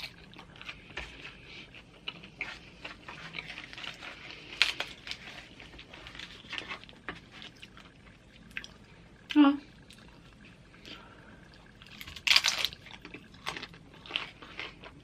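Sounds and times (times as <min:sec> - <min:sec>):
crunchy chips being chewed: 0:00.0 - 0:08.8, 0:11.6 - 0:15.0.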